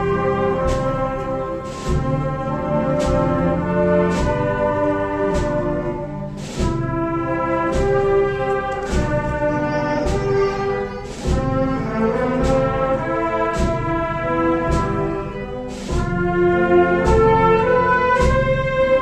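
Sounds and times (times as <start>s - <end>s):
bass drum and cymbal strokes: 0.0s - 19.0s
wind band playing a march: 0.0s - 19.0s.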